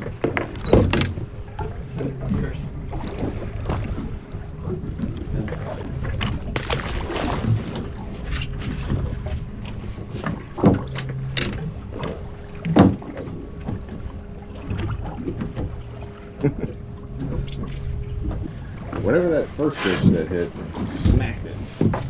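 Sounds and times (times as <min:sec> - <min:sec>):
outboard motors idling: 0:00.0 - 0:22.0.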